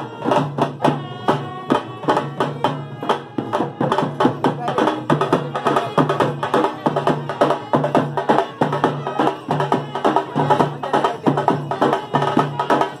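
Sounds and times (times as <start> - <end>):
barrel drum fast beat: 0.0 - 13.0
reed wind instrument melody: 0.0 - 13.0.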